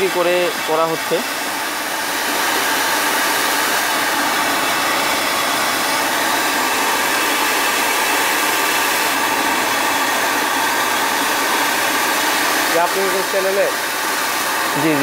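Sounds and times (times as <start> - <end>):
gas hissing from valve: 0.0 - 15.0.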